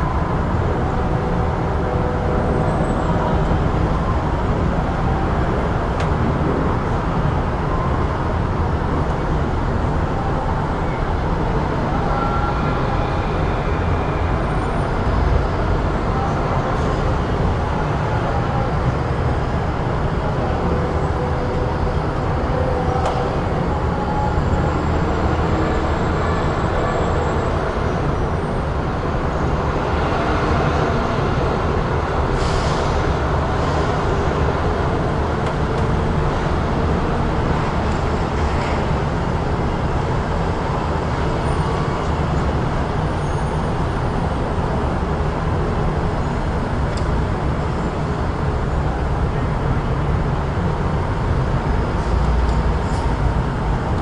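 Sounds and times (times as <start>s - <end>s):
rumble of passing vehicles: 0.0s - 54.0s.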